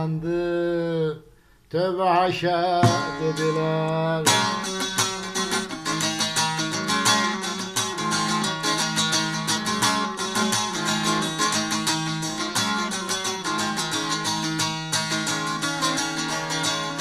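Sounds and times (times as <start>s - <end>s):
strummed long-necked lute: 2.3s - 17.0s.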